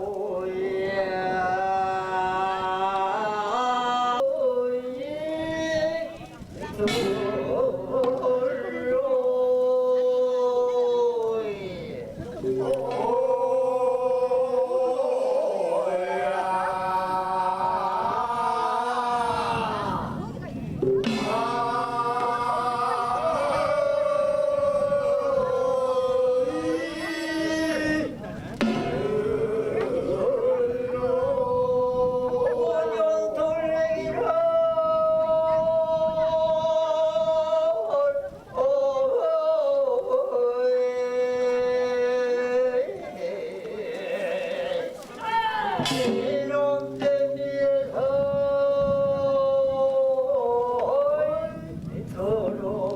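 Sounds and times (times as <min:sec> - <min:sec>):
voices singing folk song: 0:00.0 - 0:52.9.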